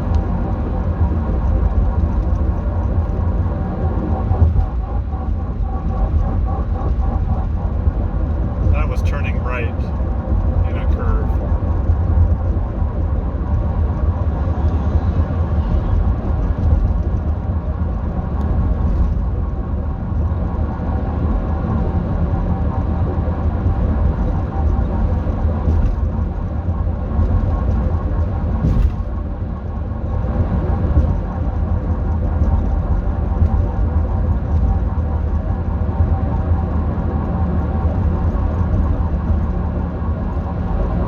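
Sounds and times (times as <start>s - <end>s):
car engine low rumble: 0.0s - 41.0s.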